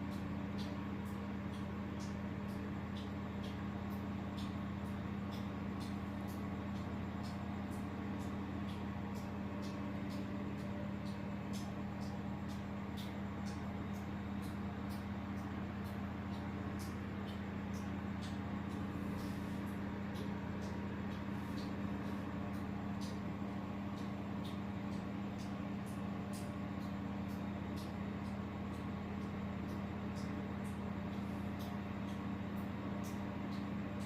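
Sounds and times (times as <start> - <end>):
faint irregular ticks: 0.0 - 34.0
low mechanical motor hum: 0.0 - 34.0.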